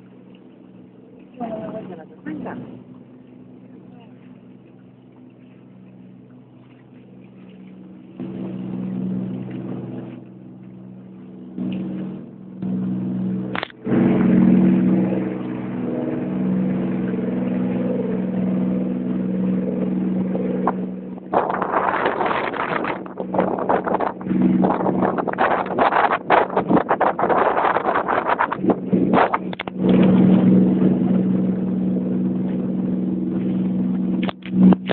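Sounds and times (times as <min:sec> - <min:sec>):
boat engine running: 0:00.0 - 0:34.9
rushing wind and water: 0:00.0 - 0:34.9.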